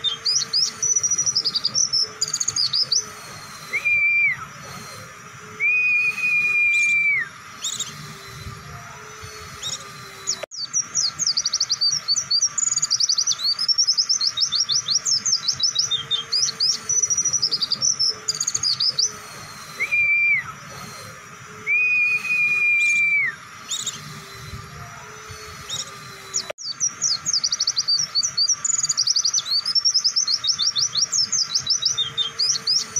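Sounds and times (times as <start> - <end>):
bird twittering and whistling: 0.0 - 32.9.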